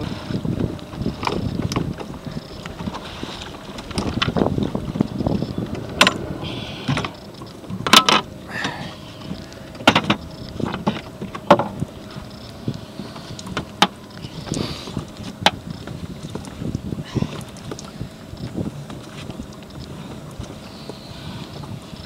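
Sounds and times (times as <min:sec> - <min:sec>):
wind and water noise: 0:00.0 - 0:22.0.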